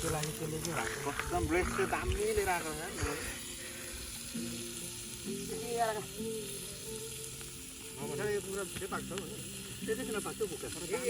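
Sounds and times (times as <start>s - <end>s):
chicken sizzling on hot stone: 0.0s - 11.0s.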